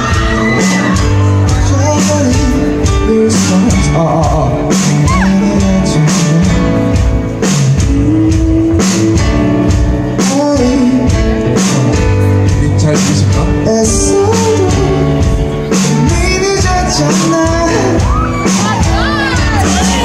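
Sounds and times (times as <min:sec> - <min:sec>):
drum and cymbal hits: 0:00.0 - 0:20.0
man singing lead vocal: 0:00.0 - 0:20.0
rock band playing: 0:00.0 - 0:20.0.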